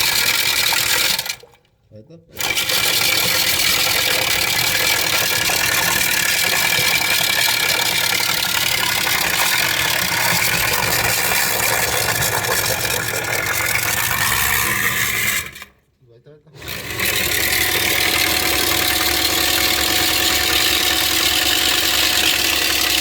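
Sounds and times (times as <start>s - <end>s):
drain-cleaning machine running: 0.0s - 1.6s, 2.3s - 15.8s, 16.6s - 23.0s.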